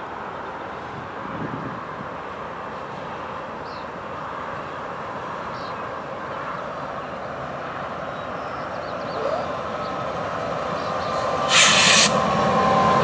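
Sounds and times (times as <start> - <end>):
diesel locomotive engine rushing: 0.0 - 13.0.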